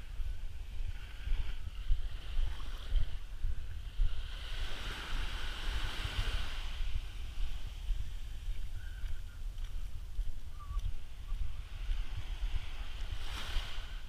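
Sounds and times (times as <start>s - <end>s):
wind on microphone: 0.0s - 14.0s
small waves lapping on shore: 0.1s - 14.0s.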